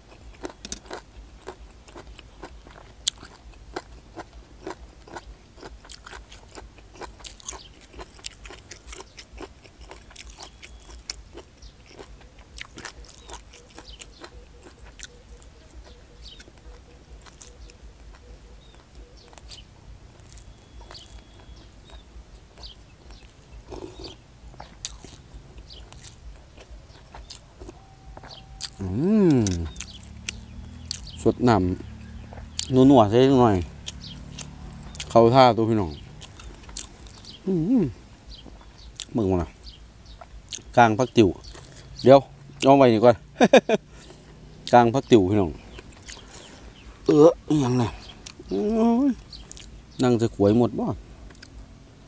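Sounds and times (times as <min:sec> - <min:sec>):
chewing crunchy mushrooms: 0:00.0 - 0:51.8.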